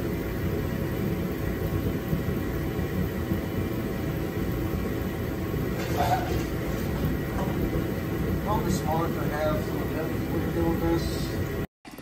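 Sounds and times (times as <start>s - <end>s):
faint steady hum: 0.0s - 11.7s
heater running: 0.0s - 11.7s.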